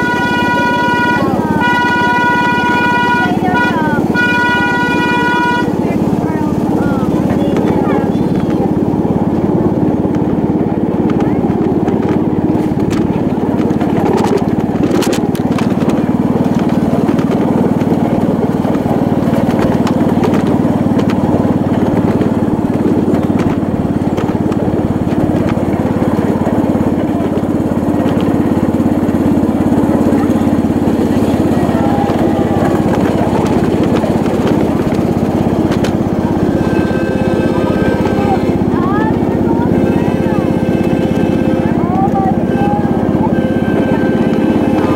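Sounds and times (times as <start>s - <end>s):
miniature train running: 0.0s - 44.9s.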